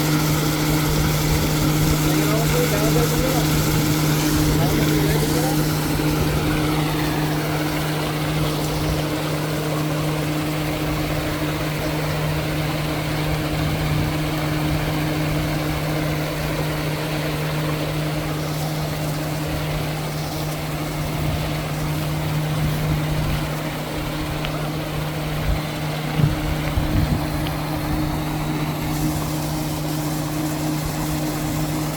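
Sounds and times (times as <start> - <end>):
motor humming: 0.0 - 31.9.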